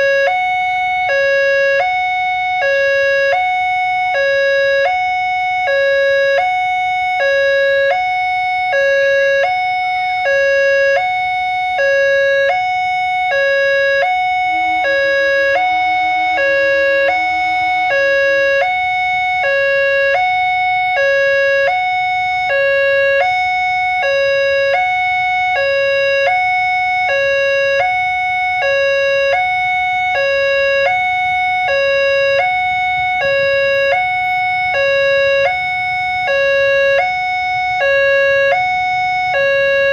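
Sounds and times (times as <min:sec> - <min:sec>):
two-tone crossing siren: 0:00.0 - 0:39.9.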